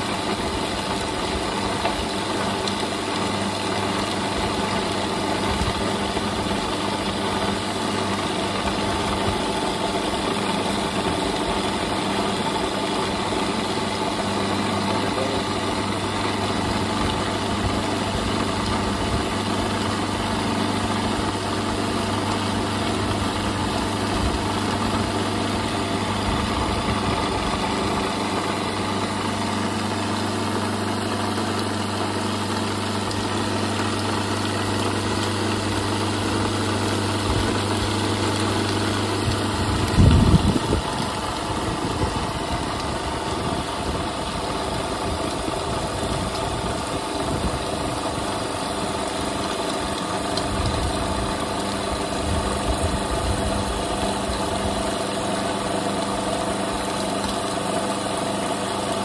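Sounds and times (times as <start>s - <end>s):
mixer grinder motor running: 0.0s - 59.0s.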